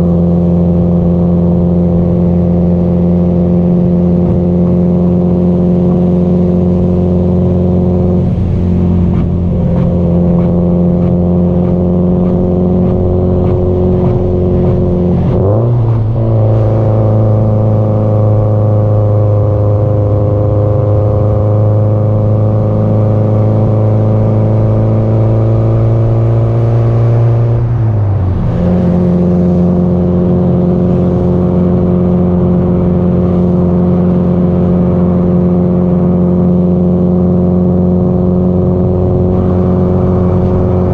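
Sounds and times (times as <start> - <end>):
car engine and exhaust cruising: 0.0 - 40.9.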